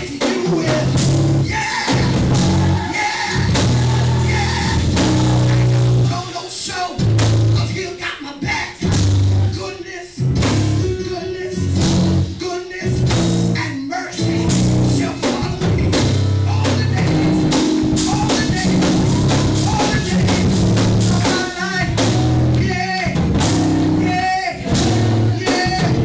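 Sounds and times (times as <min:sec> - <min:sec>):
live band playing up-tempo music: 0:00.0 - 0:26.0.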